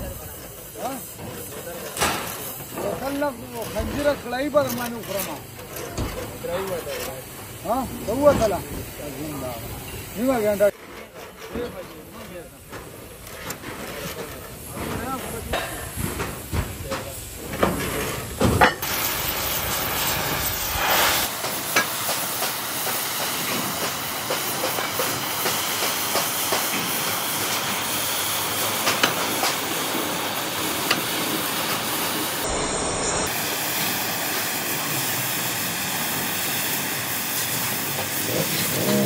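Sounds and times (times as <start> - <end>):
hissing metalworking on steel: 0.0 - 39.0.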